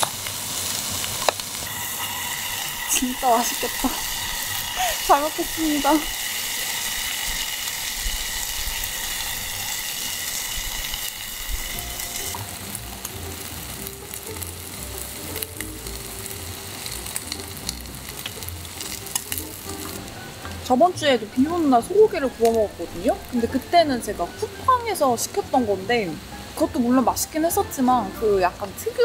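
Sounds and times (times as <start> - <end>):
beef sizzling on a grill: 0.0 - 29.0.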